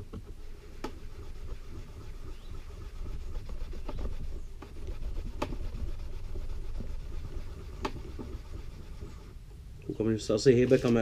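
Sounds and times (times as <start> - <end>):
steel wool scrubbing metal: 0.2 - 9.4.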